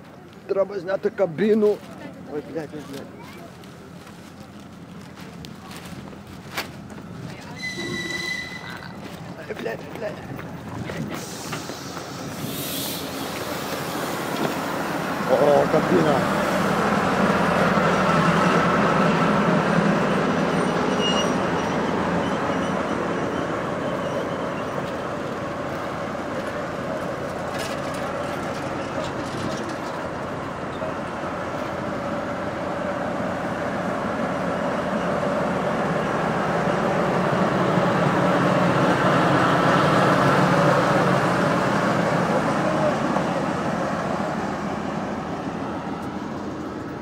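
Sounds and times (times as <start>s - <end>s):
diesel railcar engine running: 0.0s - 47.0s.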